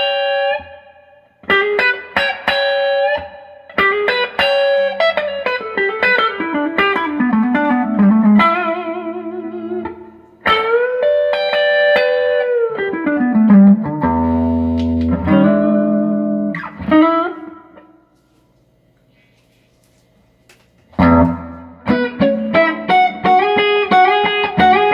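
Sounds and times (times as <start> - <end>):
electric guitar: 0.0 - 18.4, 20.5 - 24.9.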